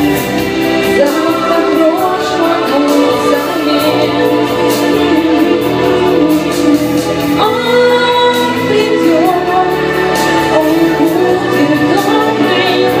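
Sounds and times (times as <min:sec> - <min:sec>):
instrumental backing music: 0:00.0 - 0:13.0
woman singing: 0:00.0 - 0:13.0.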